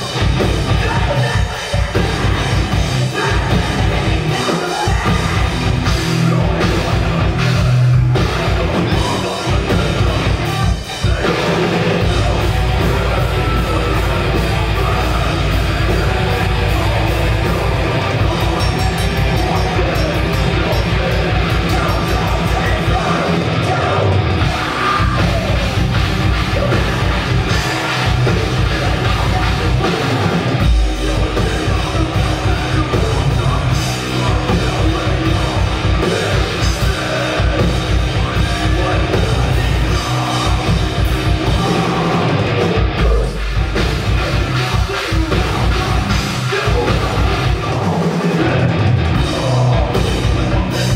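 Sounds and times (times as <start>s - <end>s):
distorted guitars: 0.0s - 50.9s
fast drumming: 0.0s - 50.9s
shouted vocals: 0.0s - 50.9s.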